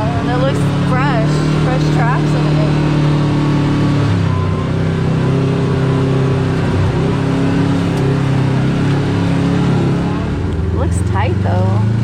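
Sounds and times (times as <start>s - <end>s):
utv engine running: 0.0s - 12.0s.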